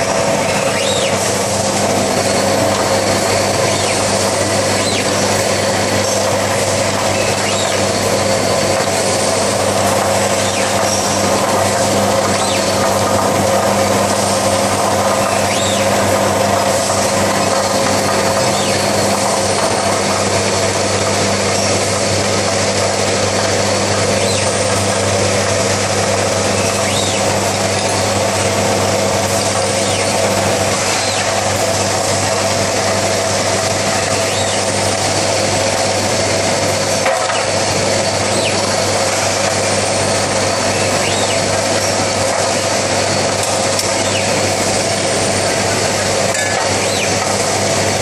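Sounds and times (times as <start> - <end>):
industrial machine noise: 0.0 - 48.0.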